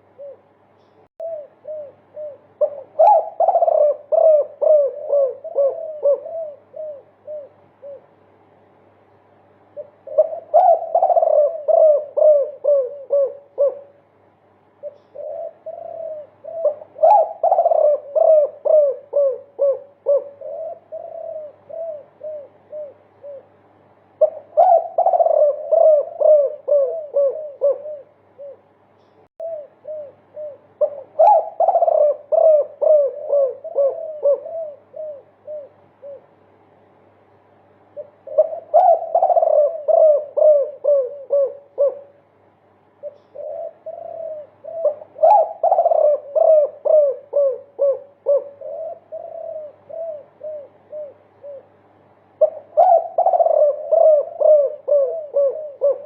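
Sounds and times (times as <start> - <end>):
dove cooing: 0.0 - 8.3, 9.7 - 14.2, 14.8 - 36.5, 37.8 - 56.0.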